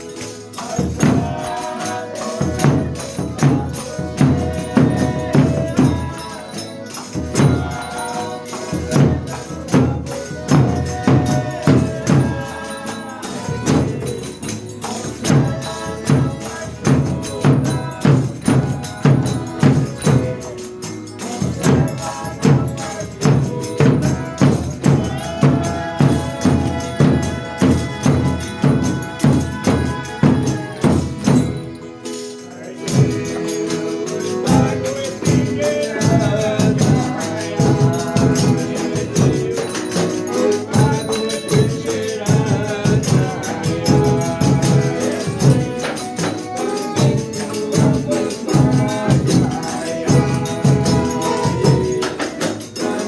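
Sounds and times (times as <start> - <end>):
melodic singing: 0.0 - 53.0
tambourine and drum rhythm: 0.0 - 53.0.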